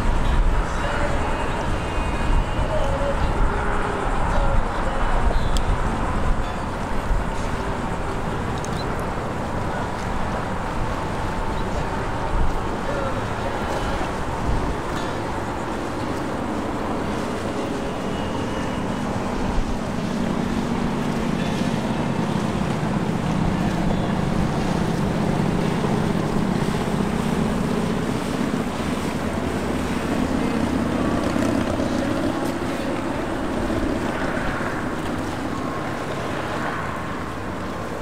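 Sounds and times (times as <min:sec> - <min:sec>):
outboard motorboat engine hum: 0:00.0 - 0:38.0
wind buffeting microphone: 0:00.0 - 0:38.0.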